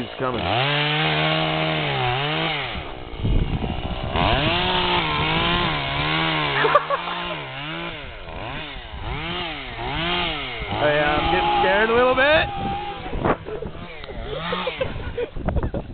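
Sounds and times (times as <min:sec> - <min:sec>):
chainsaw engine revving: 0:00.0 - 0:15.3
low rumbling: 0:00.0 - 0:15.9.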